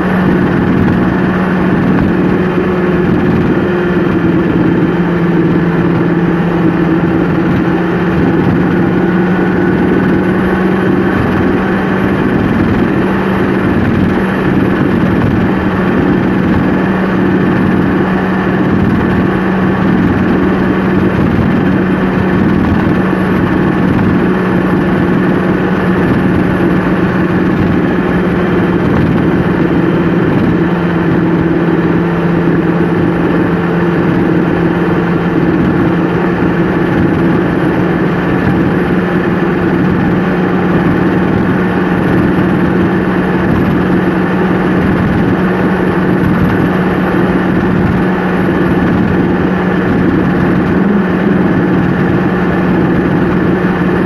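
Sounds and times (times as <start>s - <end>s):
vehicle engine drone and road noise: 0.0s - 54.0s.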